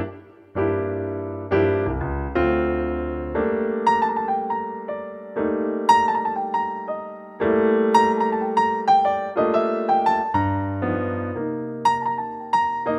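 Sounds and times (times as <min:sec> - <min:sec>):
slow piano music: 0:00.0 - 0:12.9.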